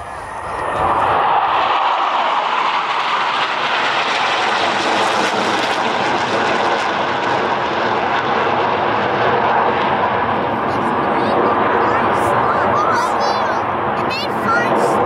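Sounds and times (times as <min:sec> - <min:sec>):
jet engines roaring overhead: 0:00.0 - 0:15.0.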